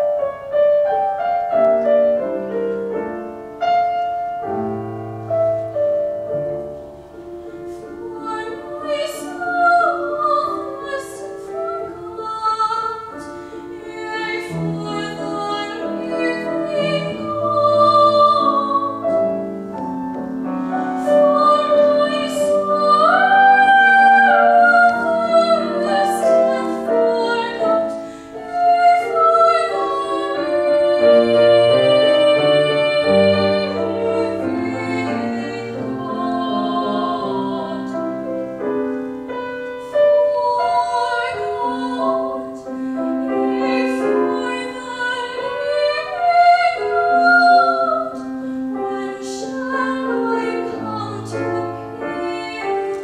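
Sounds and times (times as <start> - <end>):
piano accompaniment: 0.0 - 53.0
woman singing classical solo: 6.6 - 53.0.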